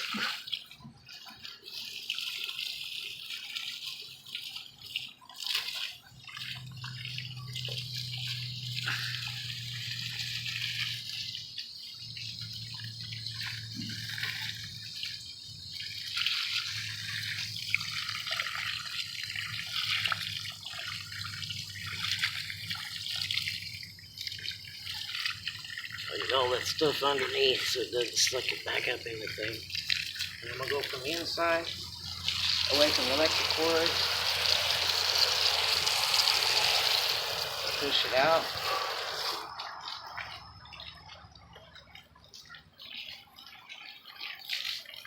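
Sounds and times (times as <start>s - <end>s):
hose water spraying on coil: 0.0s - 41.1s
water dripping: 0.0s - 45.0s.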